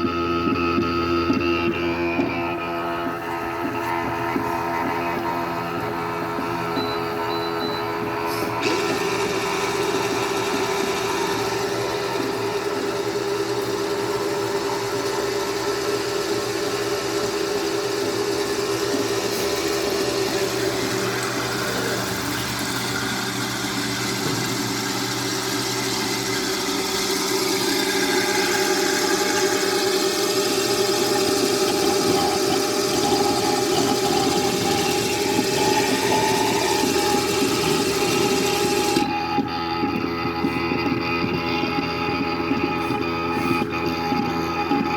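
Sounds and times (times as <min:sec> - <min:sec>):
washing machine motor humming: 0:00.0 - 0:44.9.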